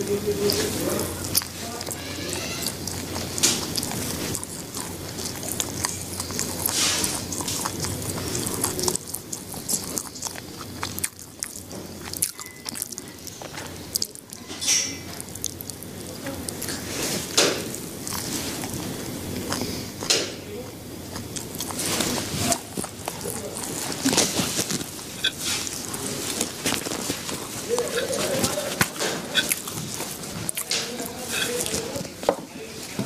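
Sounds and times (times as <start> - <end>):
person chewing food: 0.0 - 33.0
mouth clicks: 0.3 - 32.3
loud bite: 0.4 - 32.3.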